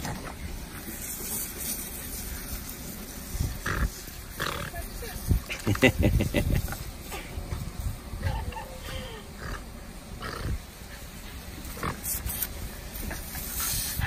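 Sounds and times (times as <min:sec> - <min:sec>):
water spray hissing: 0:00.0 - 0:14.0.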